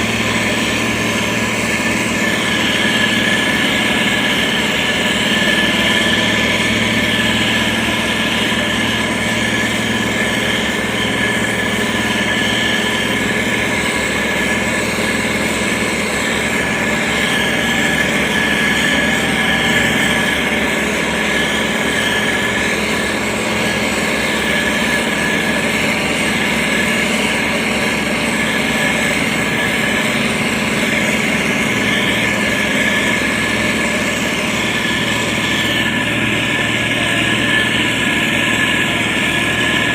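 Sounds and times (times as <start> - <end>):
heavy machine engine running: 0.0 - 39.9
high whine: 0.0 - 39.9.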